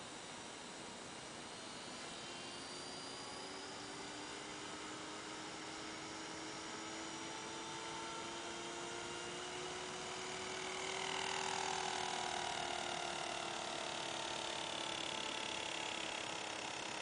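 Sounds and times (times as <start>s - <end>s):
model helicopter rotor whine: 0.0s - 17.0s.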